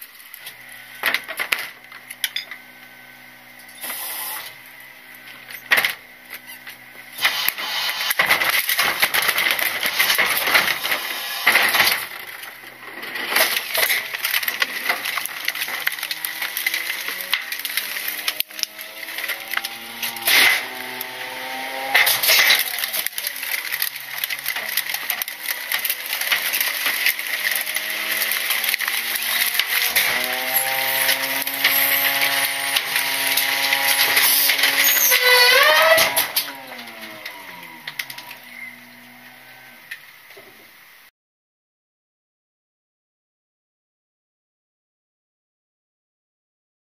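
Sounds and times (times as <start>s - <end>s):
refuse crunching and clattering: 0.0s - 40.6s
humming whine of packer: 0.3s - 39.9s.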